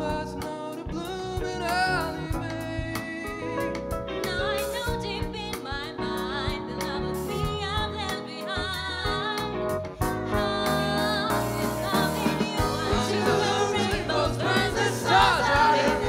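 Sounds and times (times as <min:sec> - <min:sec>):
bass: 0:00.0 - 0:16.0
drums: 0:00.0 - 0:16.0.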